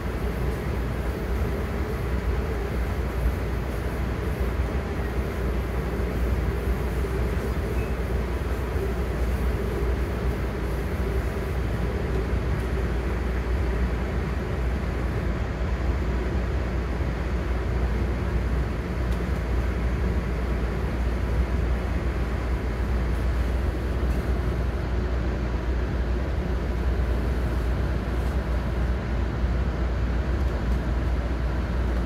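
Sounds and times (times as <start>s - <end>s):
train rumbling from inside: 0.0s - 32.0s.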